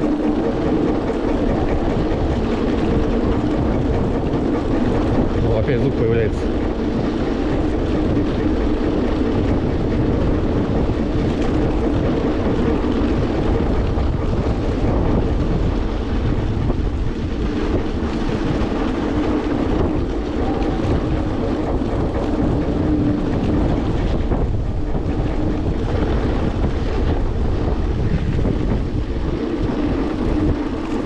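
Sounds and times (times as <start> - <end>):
electric scooter drone: 0.0 - 31.0
wind rumble on microphone: 0.0 - 31.0.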